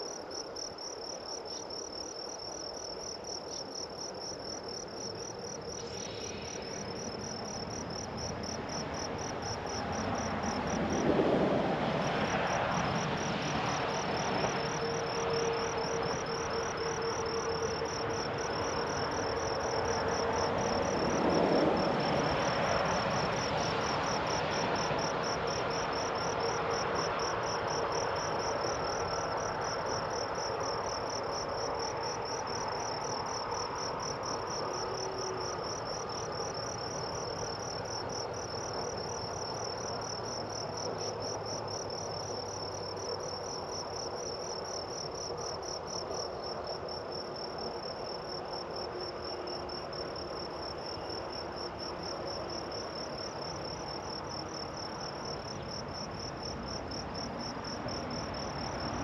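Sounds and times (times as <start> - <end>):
insects trilling: 0.0 - 11.2, 11.8 - 59.0.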